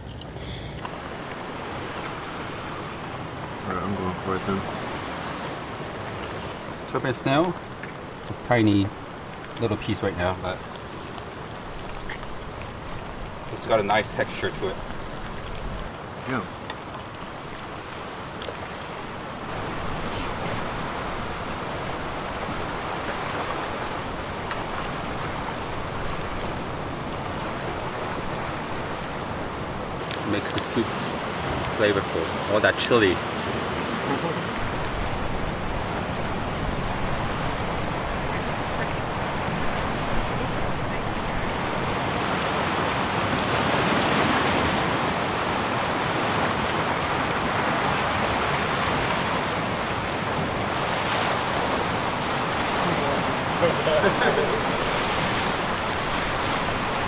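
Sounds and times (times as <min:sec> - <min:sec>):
ocean waves breaking: 0:00.0 - 0:57.0
surf washing on rocky shore: 0:00.0 - 0:57.0.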